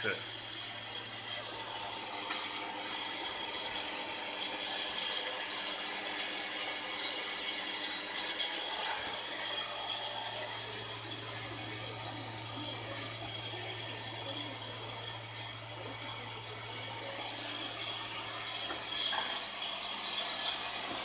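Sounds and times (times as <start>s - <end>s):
saw blade cutting aluminium: 0.0s - 21.0s.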